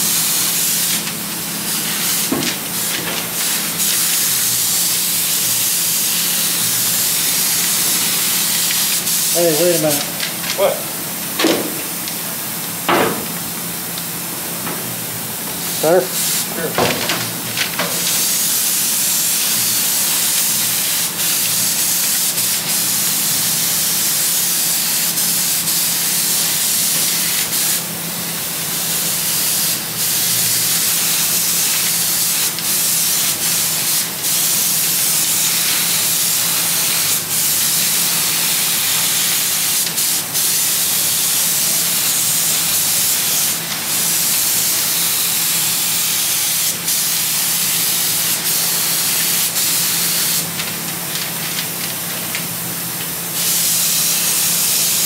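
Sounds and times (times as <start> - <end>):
paint spray gun hissing: 0.0 - 14.4, 15.4 - 55.0.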